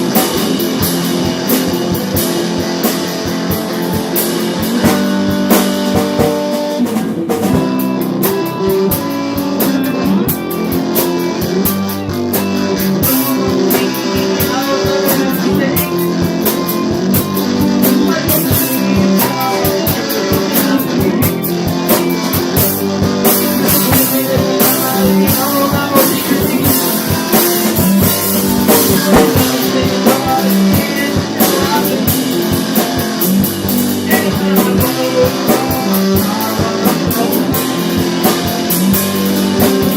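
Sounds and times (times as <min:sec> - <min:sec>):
drum-kit beat: 0:00.0 - 0:39.9
rock guitars: 0:00.0 - 0:39.9.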